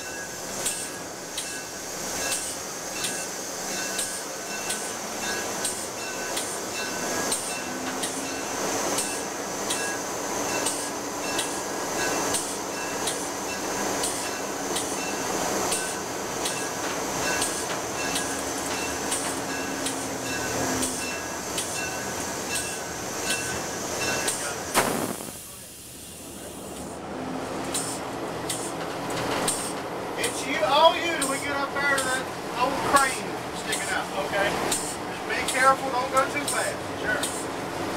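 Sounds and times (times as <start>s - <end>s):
locomotive running noise: 0.0s - 37.9s.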